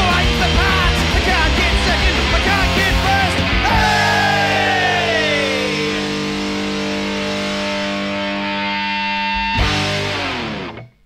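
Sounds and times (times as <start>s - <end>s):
rock band with distorted guitars: 0.0s - 11.0s.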